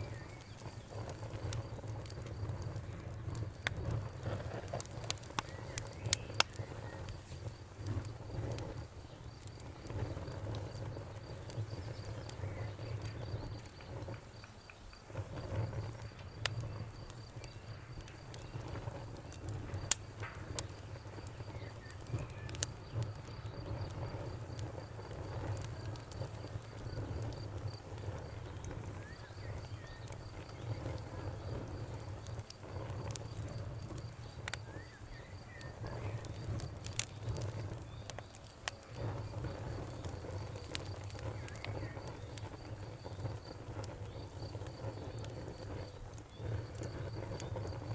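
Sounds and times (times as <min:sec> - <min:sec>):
cricket chirping: 0:00.0 - 0:47.9
wood fire crackling and popping: 0:00.0 - 0:47.9.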